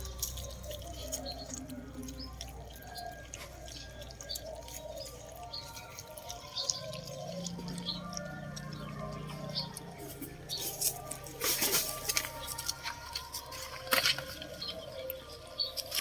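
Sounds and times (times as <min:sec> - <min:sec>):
puppies eating and lapping: 0:00.0 - 0:16.0.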